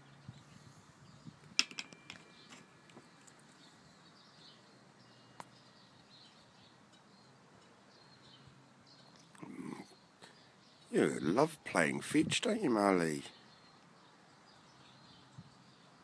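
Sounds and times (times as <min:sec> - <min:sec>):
faint bird chirping: 0:00.0 - 0:11.6, 0:13.0 - 0:16.0.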